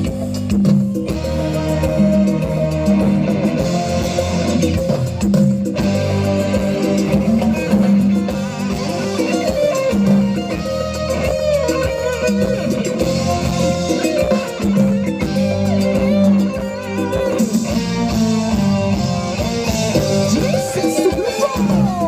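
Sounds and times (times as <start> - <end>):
live band playing instrumental: 0.0 - 22.0.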